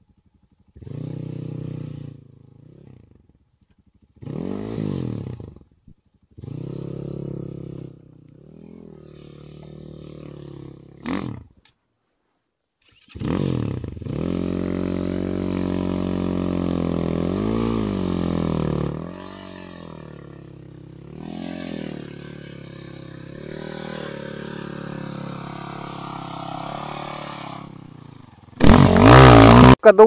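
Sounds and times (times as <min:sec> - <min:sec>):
motorcycle engine revving: 0:00.0 - 0:11.7, 0:12.8 - 0:30.0.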